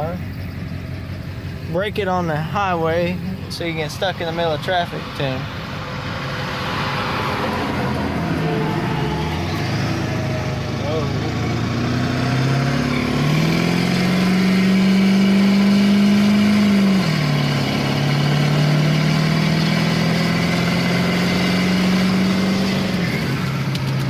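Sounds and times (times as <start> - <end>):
diesel engine accelerating hard: 0.0 - 24.0.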